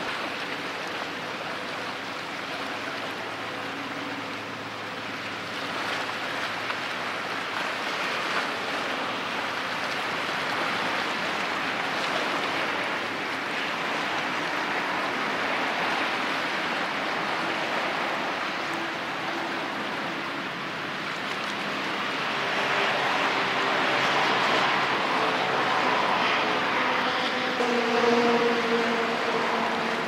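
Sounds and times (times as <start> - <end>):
rushing water and waves: 0.0 - 30.0.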